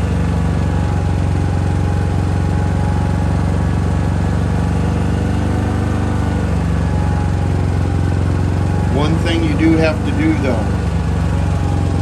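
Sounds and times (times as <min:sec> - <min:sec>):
generator running: 0:00.0 - 0:12.0.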